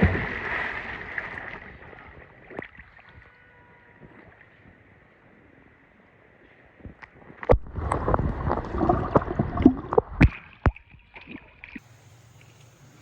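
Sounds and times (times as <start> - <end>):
water splashing and sloshing: 0.0 - 5.0, 6.4 - 13.0.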